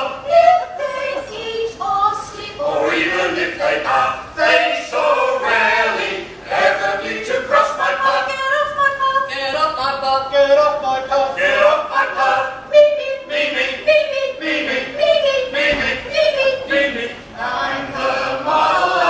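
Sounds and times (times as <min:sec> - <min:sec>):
vocal group singing a cappella: 0:00.0 - 0:19.0.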